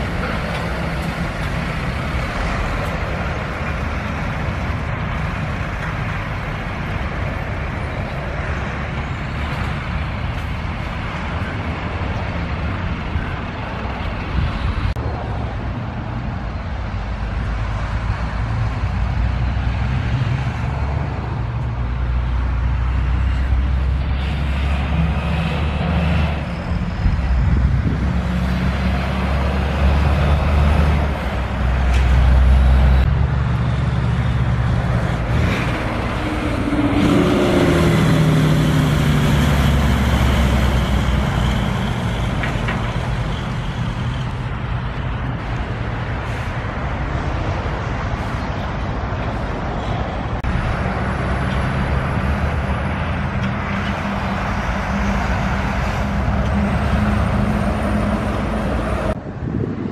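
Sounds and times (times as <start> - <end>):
heavy trucks driving past: 0.0 - 59.9.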